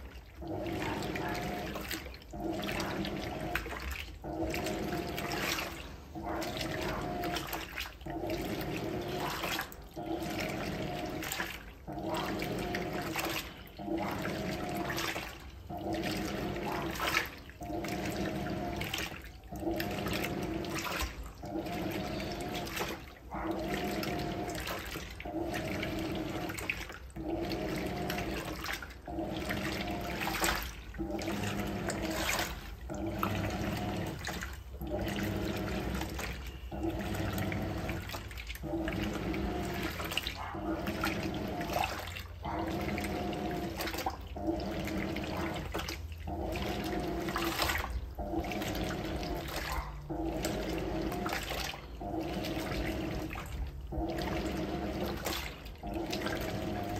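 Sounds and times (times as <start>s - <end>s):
washing machine motor hum: 0.0s - 56.9s
water and clothes sloshing: 0.0s - 56.9s.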